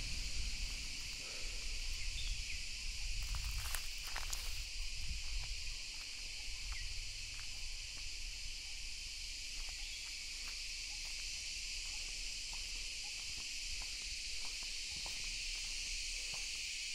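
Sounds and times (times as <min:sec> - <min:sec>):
insect chorus drone: 0:00.0 - 0:16.9.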